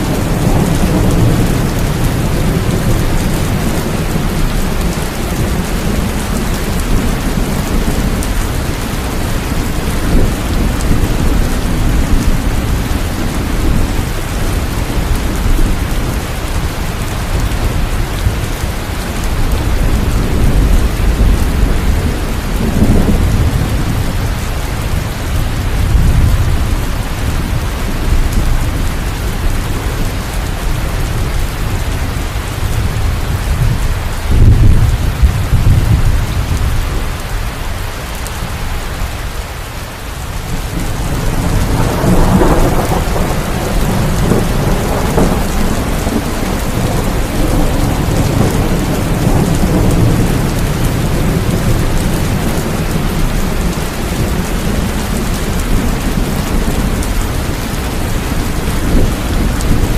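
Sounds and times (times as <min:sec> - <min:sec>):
low rolling thunder: 0:00.0 - 0:37.3, 0:40.4 - 0:59.9
steady rain falling: 0:00.0 - 0:59.9.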